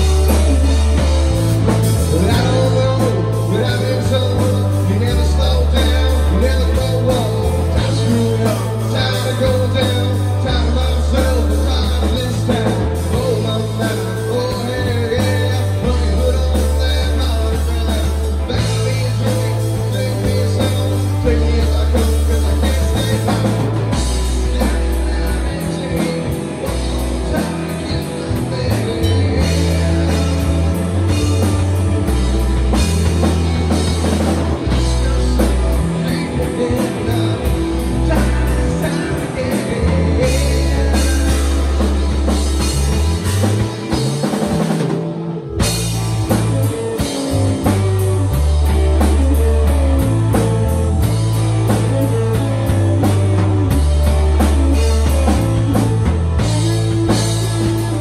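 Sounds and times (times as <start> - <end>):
drum kit: 0.0 - 58.0
electric guitars: 0.0 - 58.0
heavy bass line: 0.0 - 58.0.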